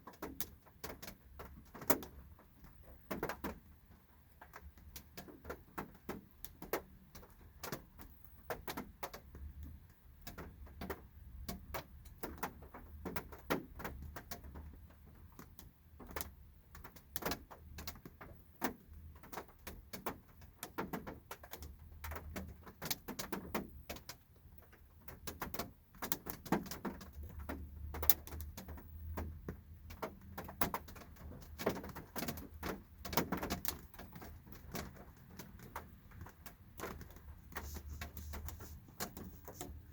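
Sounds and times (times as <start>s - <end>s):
raindrops tapping on car: 0.0s - 39.9s.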